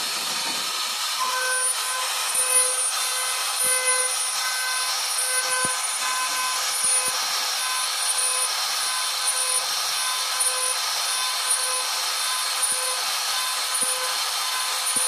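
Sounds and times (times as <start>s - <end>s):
router bit cutting wood hiss: 0.0s - 15.0s
router spindle whine: 0.0s - 15.0s.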